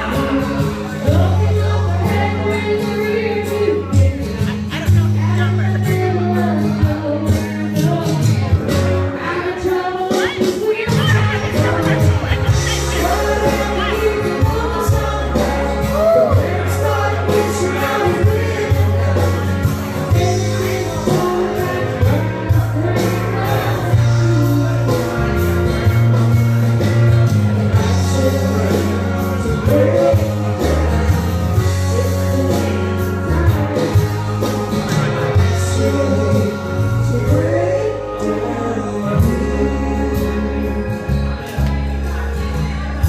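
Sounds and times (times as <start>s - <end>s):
person singing karaoke: 0.0s - 43.0s
rock backing track: 0.0s - 43.0s.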